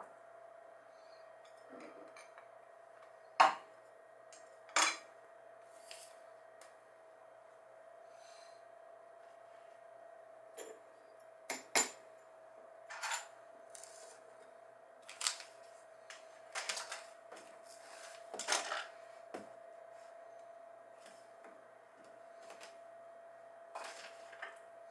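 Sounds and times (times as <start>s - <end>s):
faint steady hum: 0.0s - 24.9s.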